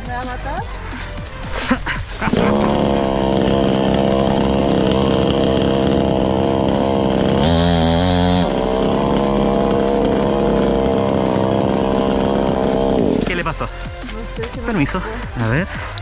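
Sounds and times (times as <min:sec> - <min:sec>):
chainsaw engine running: 0:00.6 - 0:16.0.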